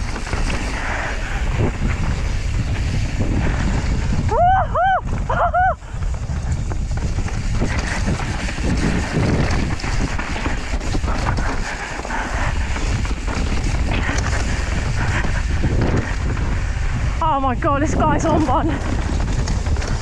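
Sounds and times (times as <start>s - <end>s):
bike clattering over bumps: 0.0s - 20.0s
tyres rolling over dirt: 0.0s - 20.0s
wind on microphone: 0.0s - 20.0s.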